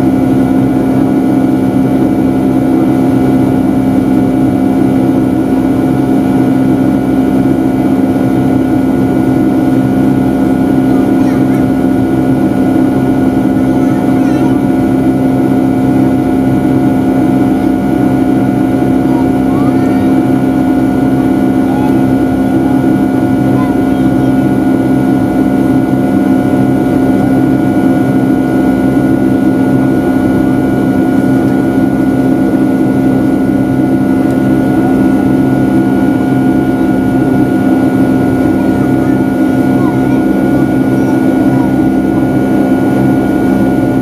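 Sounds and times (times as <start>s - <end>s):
jet engine drone in cabin: 0.0s - 44.0s.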